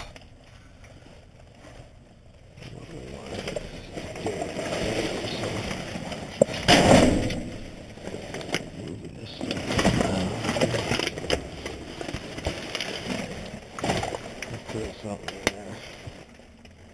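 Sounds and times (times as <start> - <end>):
plastic bags rustling: 0.0 - 16.9.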